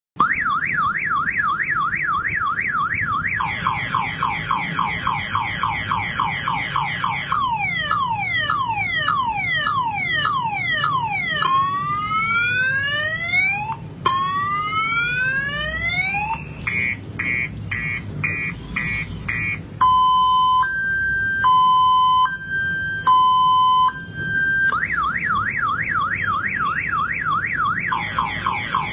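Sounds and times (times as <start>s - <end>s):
multi-tone car alarm siren: 0.2s - 28.9s.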